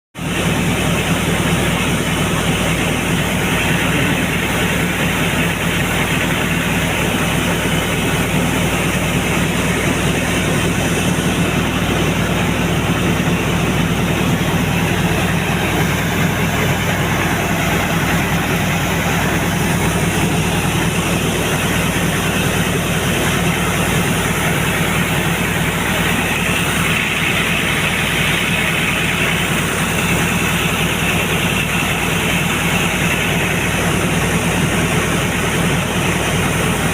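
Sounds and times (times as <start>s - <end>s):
air compressor running: 0.2s - 36.9s
water blowing out of borewell: 0.2s - 36.9s.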